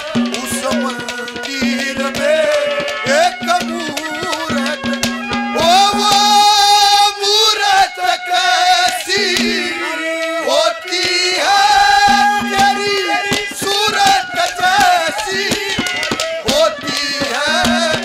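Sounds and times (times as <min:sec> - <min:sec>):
hand drum strokes: 0:00.0 - 0:06.9, 0:08.8 - 0:10.0, 0:11.0 - 0:18.0
wavering reed melody: 0:00.0 - 0:07.0, 0:09.1 - 0:10.2, 0:11.5 - 0:18.0.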